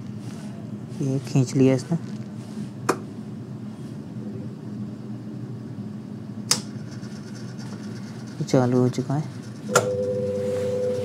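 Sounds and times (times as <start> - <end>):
washing machine humming: 0.0 - 11.0.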